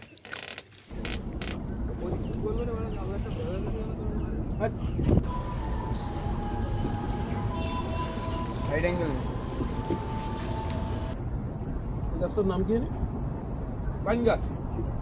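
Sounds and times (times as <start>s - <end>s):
lower insect chorus: 0.2s - 15.0s
high insect chorus: 0.9s - 15.0s
low rumble: 0.9s - 15.0s.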